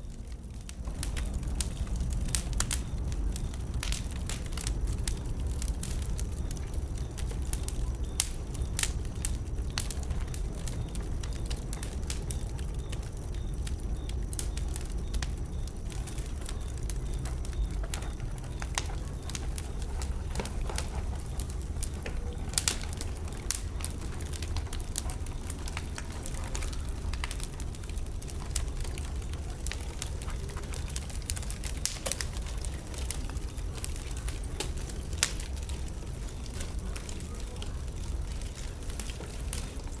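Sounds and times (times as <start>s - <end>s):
bonfire logs crackling and popping: 0.0s - 40.0s
fire low rumble: 0.0s - 40.0s.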